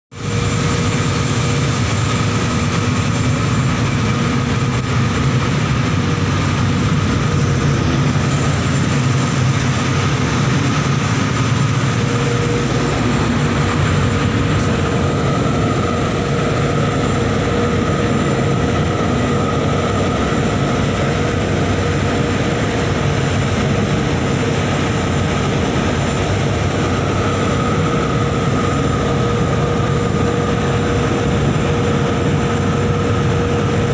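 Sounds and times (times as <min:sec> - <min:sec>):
heavy machinery drone: 0:00.1 - 0:33.9.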